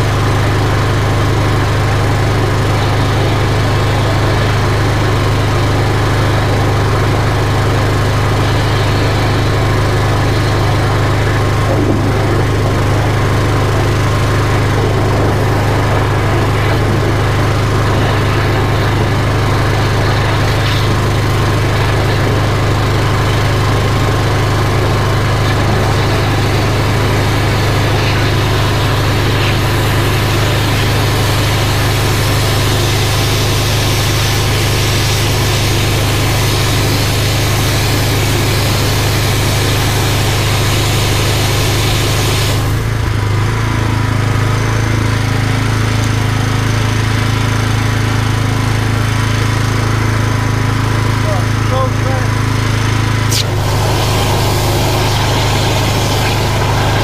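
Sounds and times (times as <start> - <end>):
high-pressure water jet hissing: 0.0 - 43.4, 51.1 - 57.0
engine running: 0.0 - 57.0.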